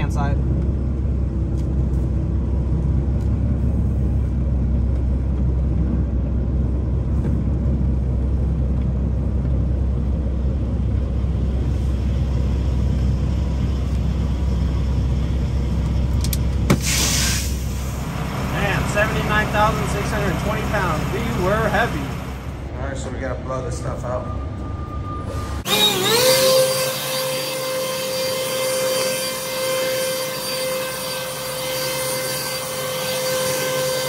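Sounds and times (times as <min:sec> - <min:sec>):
truck diesel engine rumbling: 0:00.0 - 0:34.0.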